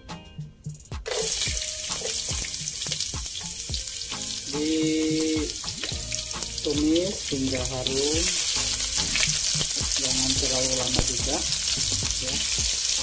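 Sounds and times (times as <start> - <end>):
food sizzling in hot oil: 1.1 - 13.0.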